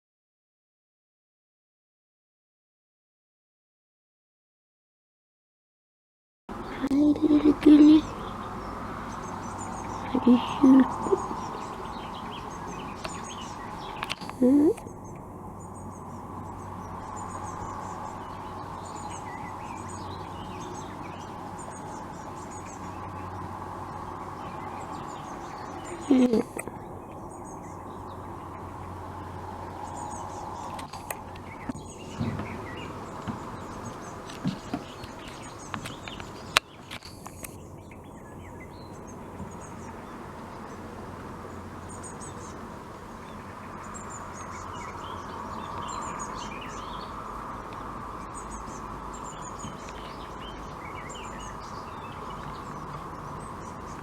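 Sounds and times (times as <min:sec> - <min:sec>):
small birds chirping: 0:06.5 - 0:54.0.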